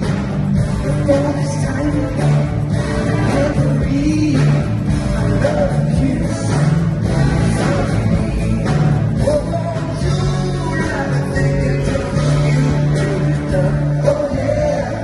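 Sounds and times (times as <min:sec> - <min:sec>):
guitar: 0:00.0 - 0:15.0
live band music: 0:00.0 - 0:15.0.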